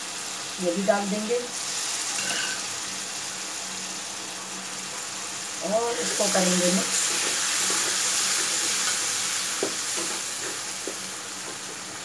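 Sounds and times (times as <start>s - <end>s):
lentils sizzling in oil: 0.0s - 12.0s.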